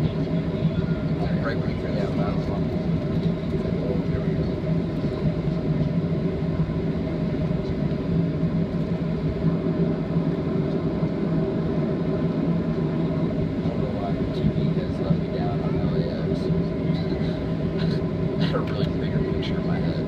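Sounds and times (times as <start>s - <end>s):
jet engines humming in cabin: 0.0s - 20.0s.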